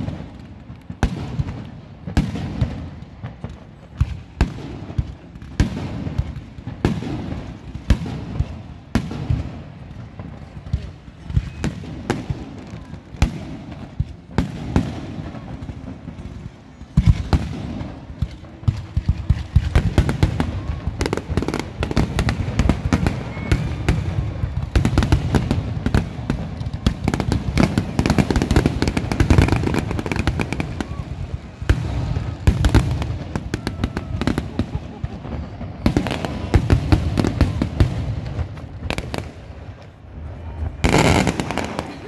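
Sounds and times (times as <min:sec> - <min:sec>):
fireworks bangs: 0:00.0 - 0:42.0.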